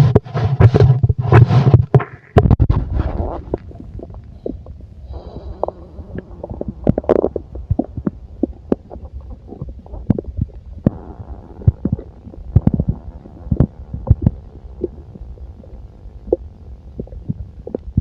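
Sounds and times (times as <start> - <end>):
stomach gurgling and rumbling: 0.0 - 18.0.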